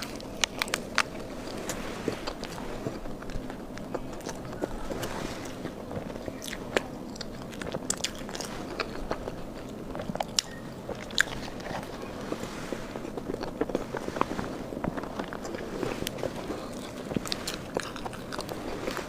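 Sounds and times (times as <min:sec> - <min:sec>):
person chewing soft food: 0:00.0 - 0:19.0.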